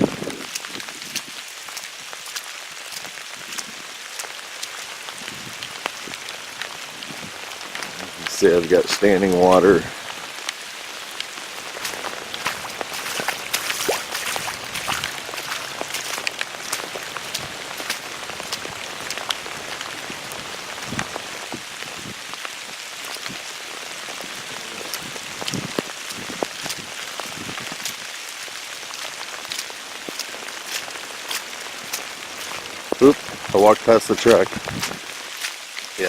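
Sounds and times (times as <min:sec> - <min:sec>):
raindrops ticking close by: 0:00.0 - 0:36.0
steady rain falling: 0:00.0 - 0:36.0.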